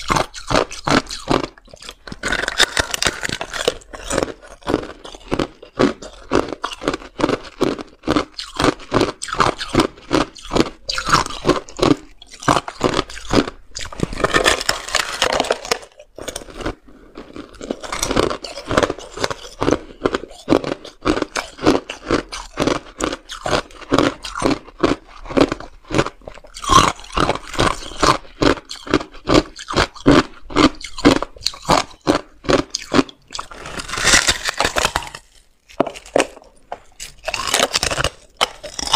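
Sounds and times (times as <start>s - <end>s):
ice crunching between teeth: 0.0s - 38.9s.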